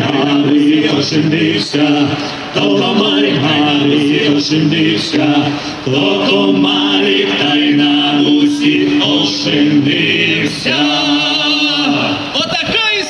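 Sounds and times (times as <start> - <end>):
vocal ensemble singing harmony: 0.0 - 12.4.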